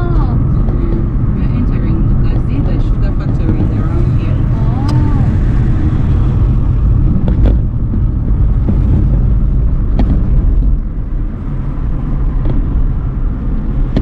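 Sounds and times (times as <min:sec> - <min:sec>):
moving car rumble: 0:00.0 - 0:14.0.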